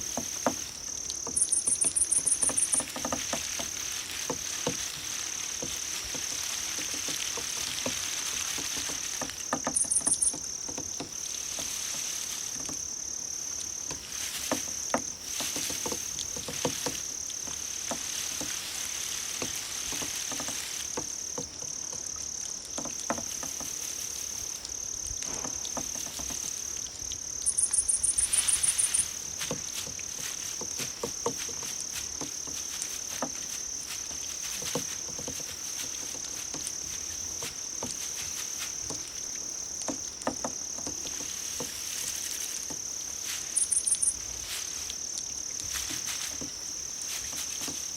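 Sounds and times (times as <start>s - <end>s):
insect rapidly pulsed chirp: 0.0s - 6.6s, 8.4s - 19.7s, 24.0s - 47.9s
crickets trilling: 0.0s - 47.9s.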